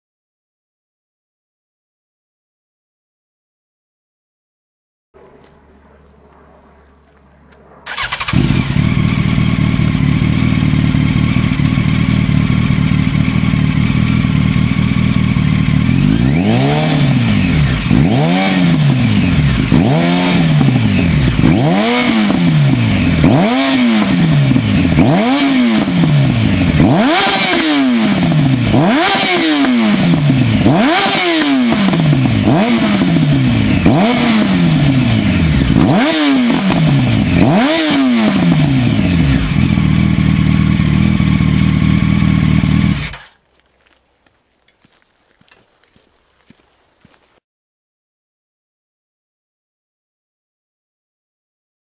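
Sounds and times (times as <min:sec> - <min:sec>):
motorcycle engine idling and revving: 0:05.2 - 0:47.4.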